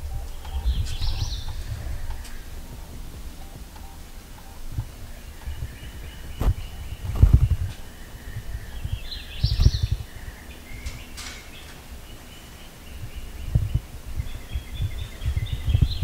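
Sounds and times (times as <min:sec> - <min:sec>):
low rumbling thumps: 0:00.0 - 0:16.0
songbirds chirping and singing: 0:00.0 - 0:16.0.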